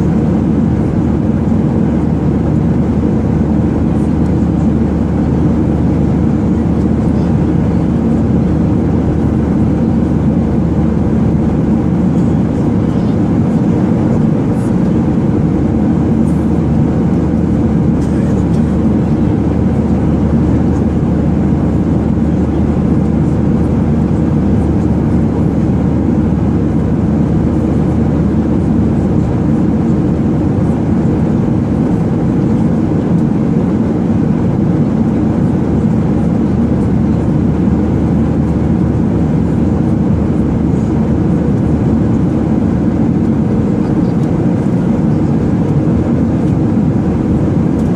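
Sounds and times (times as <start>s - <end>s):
airliner cabin engine roar: 0.0s - 47.9s
constant low hum: 0.0s - 47.9s.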